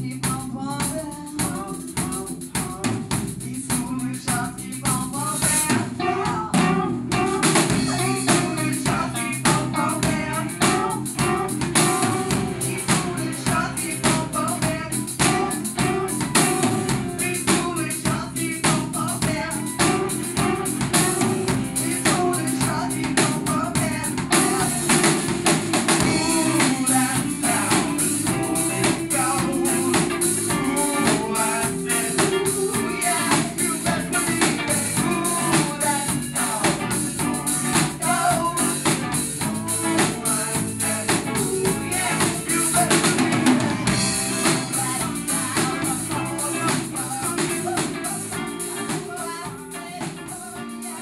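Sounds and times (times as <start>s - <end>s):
drums keeping a beat: 0.0s - 51.0s
electric bass guitar: 0.0s - 51.0s
live rock band: 0.0s - 51.0s
sung vocals: 0.0s - 51.0s.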